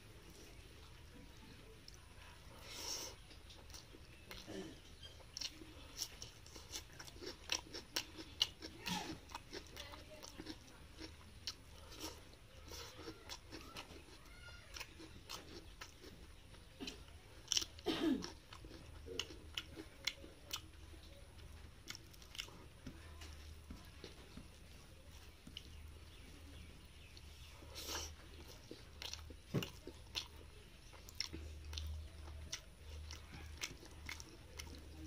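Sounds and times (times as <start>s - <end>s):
chewing and lip-smacking: 0.1s - 35.0s.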